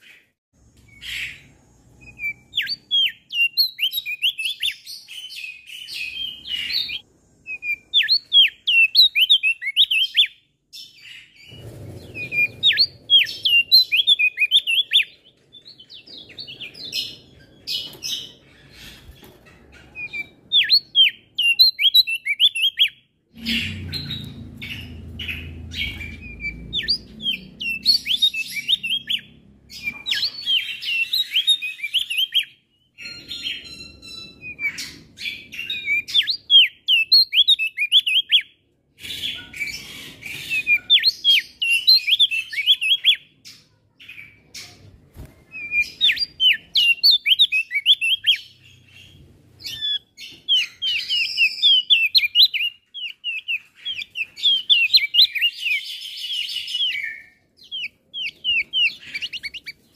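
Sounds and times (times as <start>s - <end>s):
bird singing rapid high chirps: 0.9s - 44.6s, 45.4s - 59.9s.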